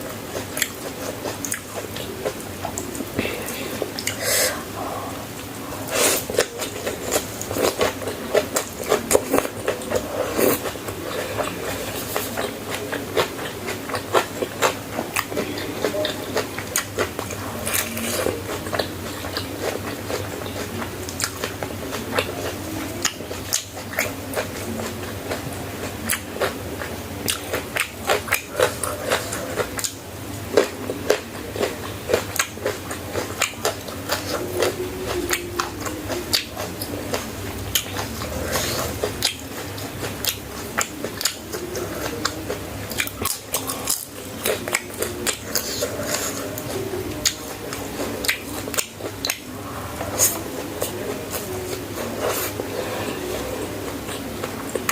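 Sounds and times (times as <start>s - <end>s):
chewing crunchy food: 0.0s - 54.9s.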